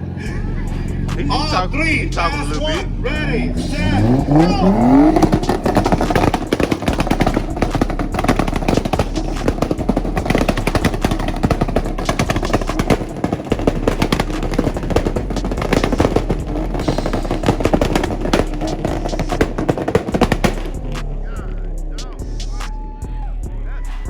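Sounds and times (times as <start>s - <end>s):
car engines revving: 0.0s - 24.0s
exhaust crackle: 0.0s - 24.0s.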